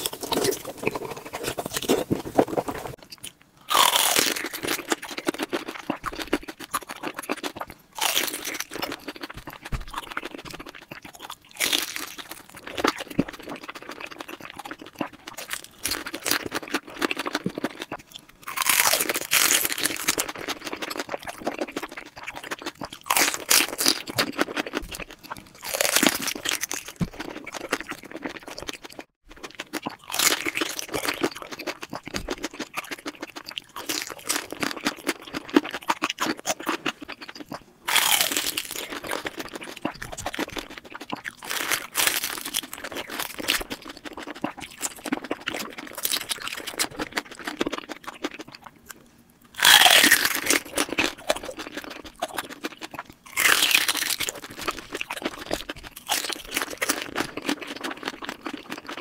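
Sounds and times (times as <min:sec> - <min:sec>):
crunchy biting and chewing: 0:00.0 - 0:59.0.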